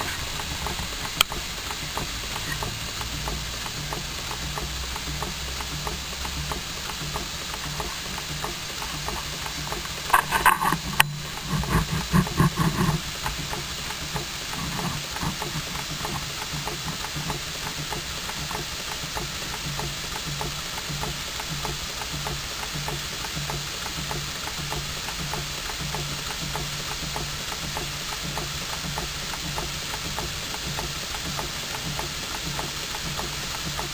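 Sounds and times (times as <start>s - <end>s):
air hiss: 0.0s - 33.9s
model engine ticking: 0.0s - 33.9s.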